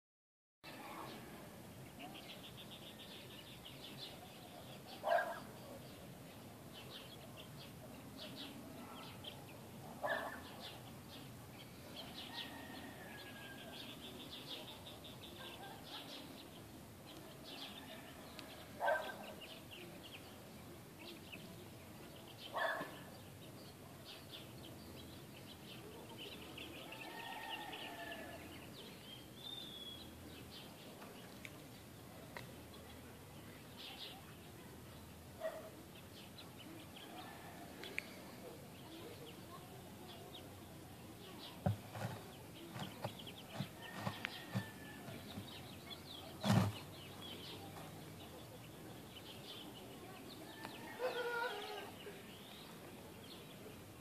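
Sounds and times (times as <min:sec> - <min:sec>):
small birds chirping and trilling: 0:00.7 - 0:54.0.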